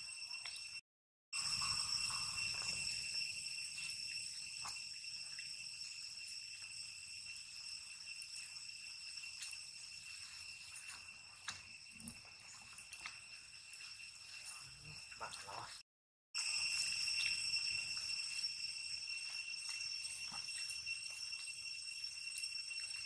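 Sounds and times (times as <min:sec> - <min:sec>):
high-pitched insect chorus: 0:00.0 - 0:00.8, 0:01.4 - 0:15.8, 0:16.4 - 0:23.0.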